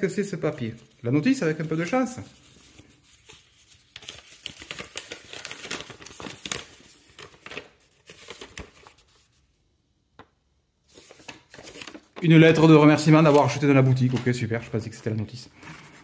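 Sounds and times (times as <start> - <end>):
paper crinkling and rustling: 0.2 - 9.5, 10.9 - 16.0.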